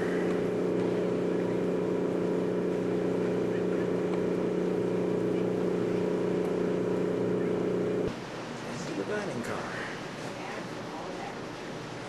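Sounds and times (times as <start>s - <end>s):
passenger train idling hum: 0.0s - 12.0s.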